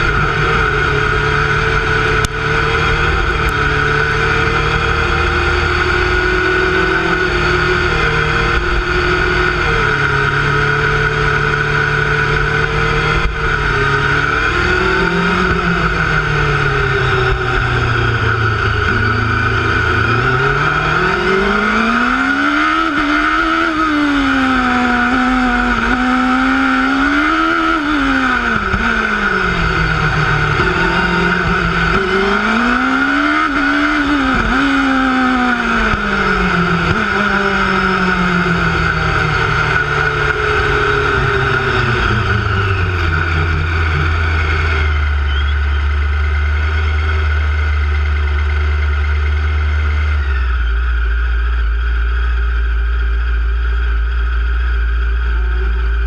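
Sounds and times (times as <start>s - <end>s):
racing car engine revving: 0.0s - 56.0s
steady high whine: 0.0s - 56.0s.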